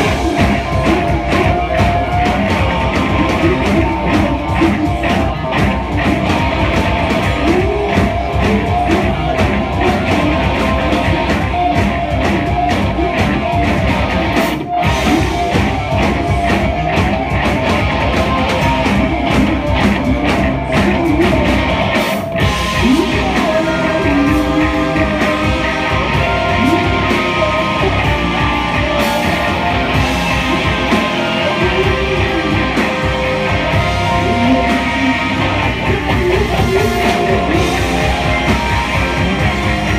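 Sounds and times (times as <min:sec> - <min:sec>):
man singing into a microphone: 0:00.0 - 0:13.8, 0:14.9 - 0:39.9
bass guitar: 0:00.0 - 0:39.9
drums: 0:00.0 - 0:39.9
electric guitars: 0:00.0 - 0:39.9.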